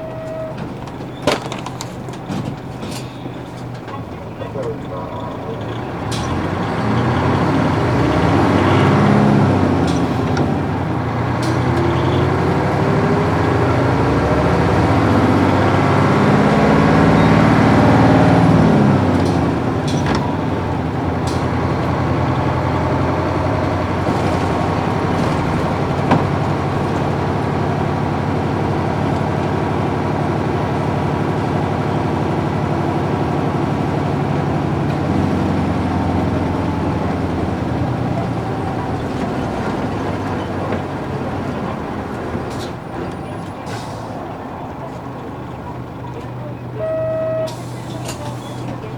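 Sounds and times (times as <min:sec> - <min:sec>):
bus diesel engine: 0:00.0 - 0:48.9.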